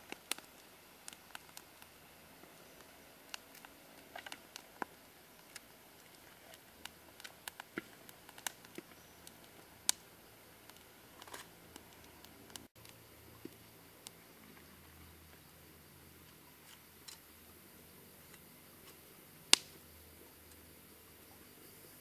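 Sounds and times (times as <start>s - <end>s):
wood fire crackling: 0.0s - 20.7s.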